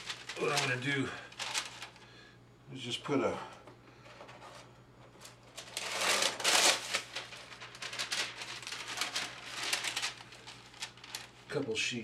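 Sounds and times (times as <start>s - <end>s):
parchment paper rustling and crinkling: 0.0s - 2.1s, 4.0s - 12.0s.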